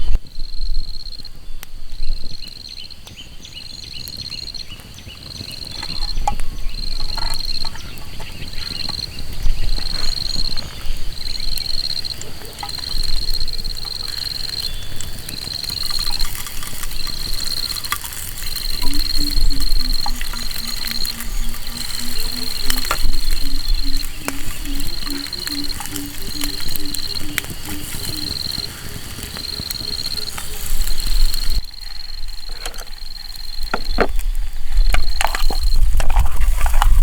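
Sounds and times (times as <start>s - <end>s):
insect trilling: 3.7s - 37.0s.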